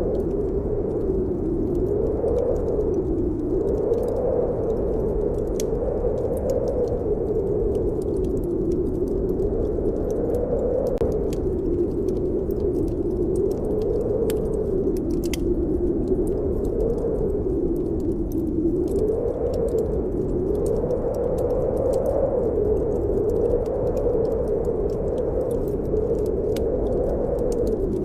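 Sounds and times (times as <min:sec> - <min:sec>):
snowstorm wind blowing: 0:00.0 - 0:28.0
wood fire crackling: 0:00.0 - 0:28.0.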